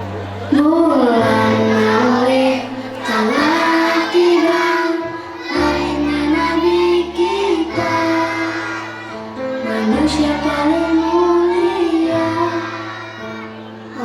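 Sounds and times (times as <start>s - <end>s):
children's choir singing: 0.0s - 14.0s.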